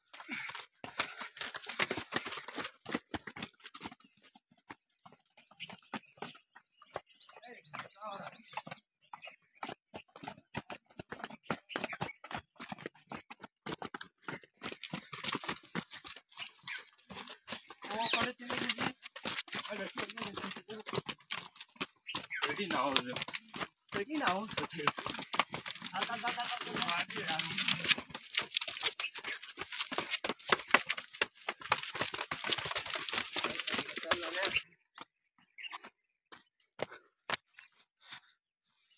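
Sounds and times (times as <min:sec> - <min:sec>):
runners' footsteps on concrete and gravel: 0:00.0 - 0:38.9.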